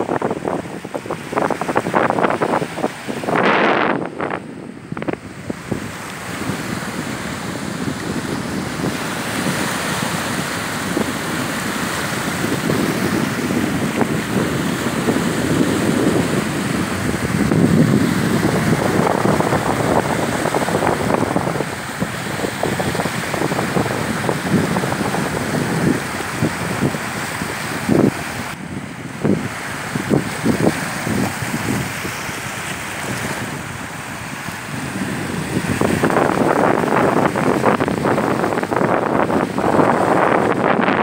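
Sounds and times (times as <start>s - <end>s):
sea waves breaking: 0.0s - 41.0s
wind buffeting microphone: 0.0s - 41.0s.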